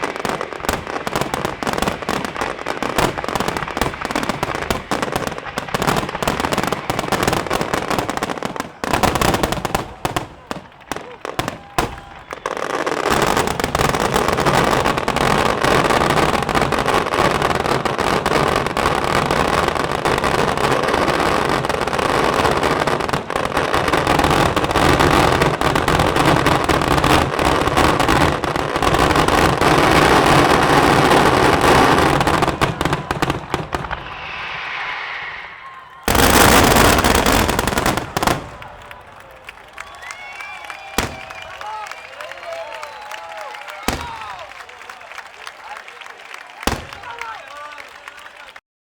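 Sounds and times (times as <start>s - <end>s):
fireworks exploding: 0.0s - 45.3s, 46.6s - 47.5s.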